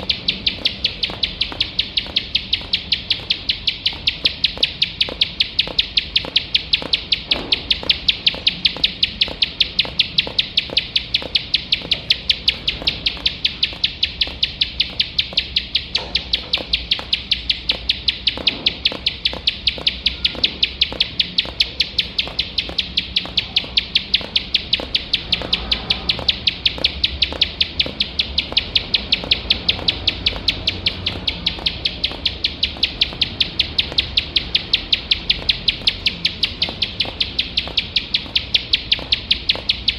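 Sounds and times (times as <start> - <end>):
bird singing sharp clicking notes: 0.0 - 39.9.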